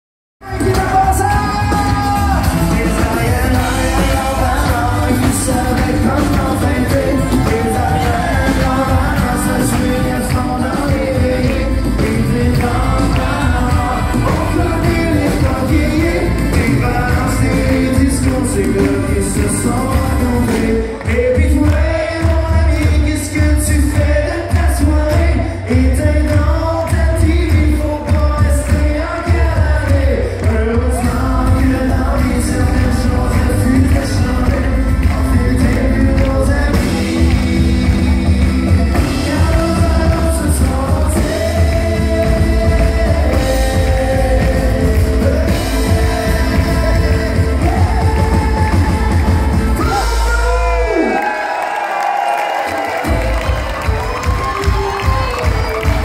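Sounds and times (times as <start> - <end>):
steady drum beat: 0.4 - 51.1, 52.9 - 56.0
live country band with singer: 0.4 - 56.0.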